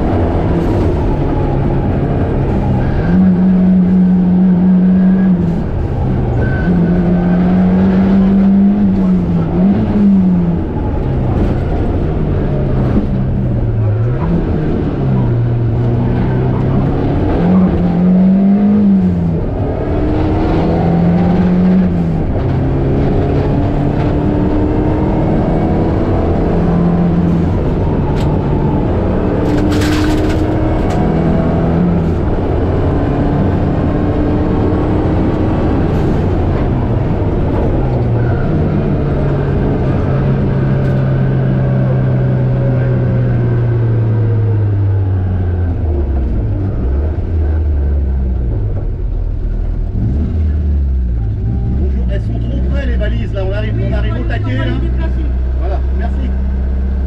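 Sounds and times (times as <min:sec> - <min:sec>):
car engine revving through gears: 0:00.0 - 0:57.0.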